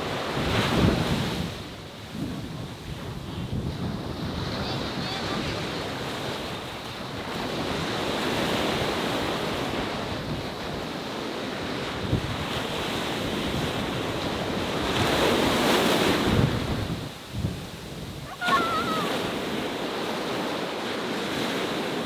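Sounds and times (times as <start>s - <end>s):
choppy sea waves rushing: 0.0s - 22.0s
wind buffeting microphone: 0.0s - 22.0s.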